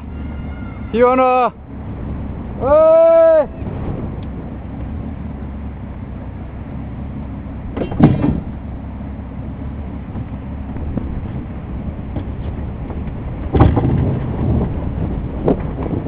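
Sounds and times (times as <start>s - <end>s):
boat engine running: 0.0s - 16.0s
water and wind on hull: 0.0s - 16.0s.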